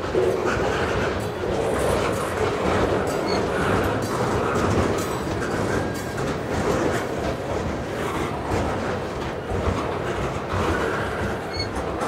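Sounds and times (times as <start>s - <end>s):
freight train rumbling past: 0.0s - 12.0s
steel wheels clacking on rails: 0.0s - 12.0s.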